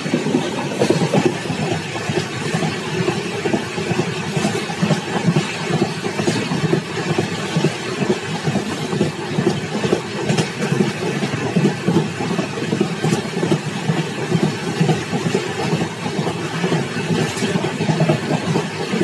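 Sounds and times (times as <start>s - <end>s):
train wheels clattering on rail: 0.0s - 19.0s.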